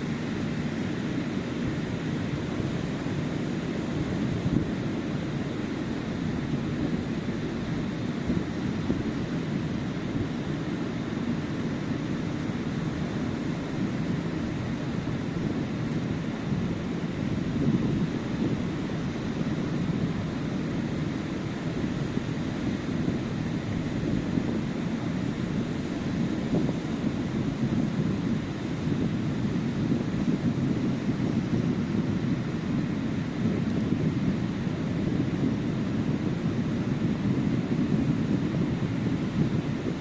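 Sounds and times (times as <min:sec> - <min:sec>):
waves breaking on beach: 0:00.0 - 0:40.0.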